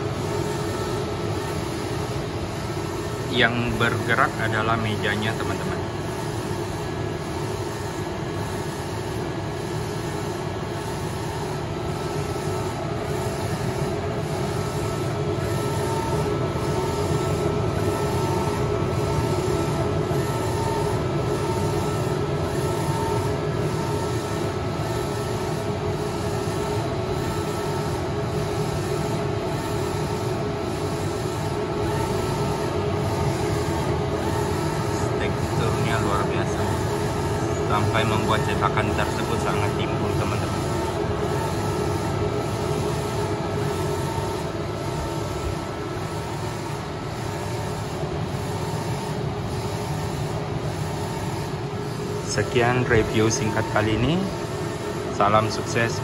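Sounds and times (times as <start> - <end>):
printer motors and fans humming: 0.0 - 56.0.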